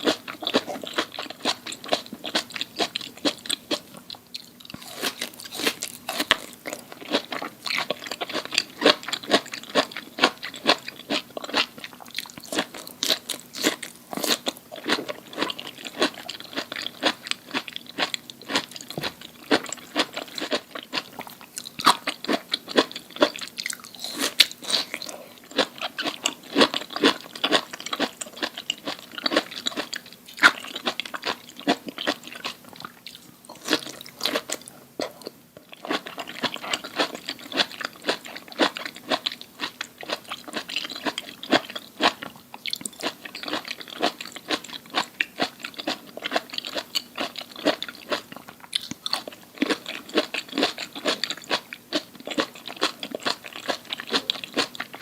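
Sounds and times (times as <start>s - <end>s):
crunchy food chewing: 0.0s - 55.0s.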